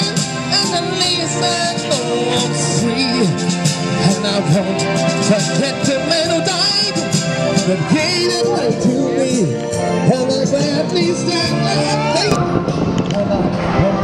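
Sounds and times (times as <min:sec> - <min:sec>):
backing track from speaker: 0:00.0 - 0:14.0
person singing into microphone: 0:00.0 - 0:14.0.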